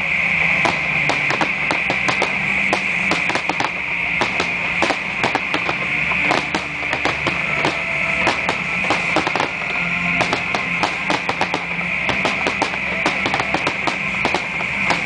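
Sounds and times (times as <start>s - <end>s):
fireworks bangs and pops: 0.0s - 15.0s
fireworks crackle: 0.0s - 15.0s
music playing: 0.0s - 15.0s.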